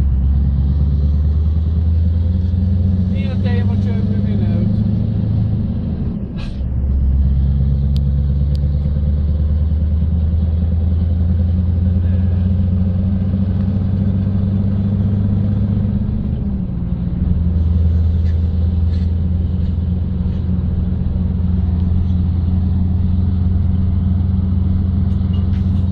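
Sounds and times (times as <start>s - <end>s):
truck diesel engine drone: 0.0s - 25.9s.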